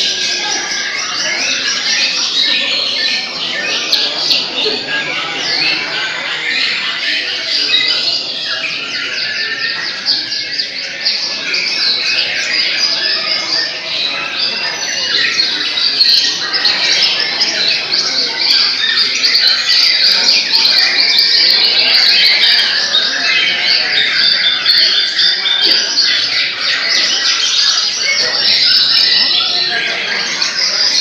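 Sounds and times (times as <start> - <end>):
chorus of birds whistling: 0.0 - 31.0.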